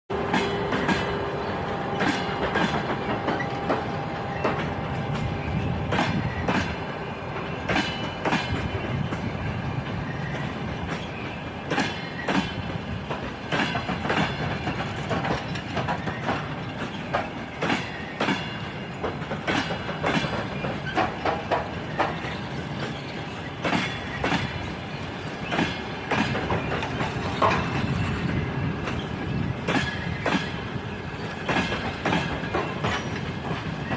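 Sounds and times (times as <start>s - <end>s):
train rumbling: 0.1s - 33.9s
wheels clacking over rail joints: 0.1s - 33.9s.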